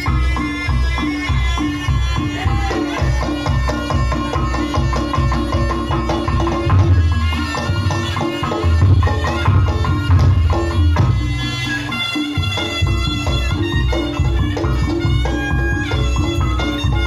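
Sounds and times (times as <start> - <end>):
drums keeping steady beat: 0.0 - 17.0.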